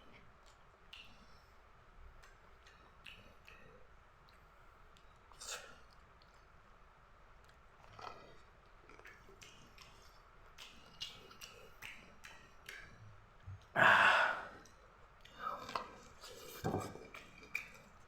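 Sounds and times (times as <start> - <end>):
chewing and wet mouth clicks: 0.1 - 13.8, 14.5 - 18.0.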